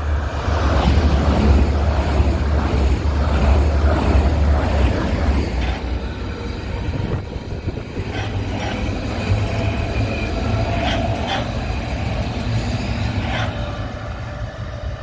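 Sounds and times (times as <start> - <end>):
electric train rumble and hum: 0.0 - 15.0
high-speed train rushing past: 0.0 - 15.0
wheels clicking over rail joints: 1.4 - 14.0.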